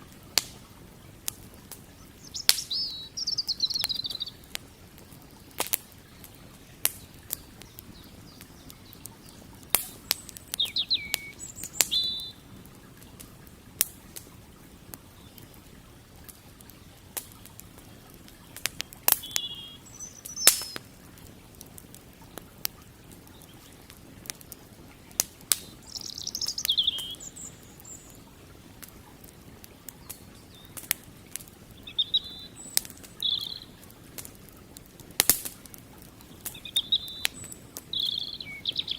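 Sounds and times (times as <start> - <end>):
campfire crackling and popping: 0.0 - 38.9
small birds chirping: 0.0 - 38.9.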